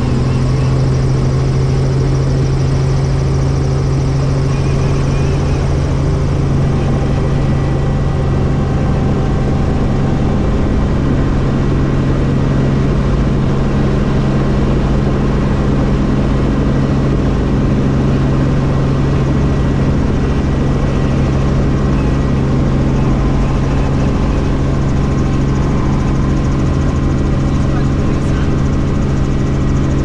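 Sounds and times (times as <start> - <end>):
helicopter turbine and rotor drone: 0.0 - 30.0.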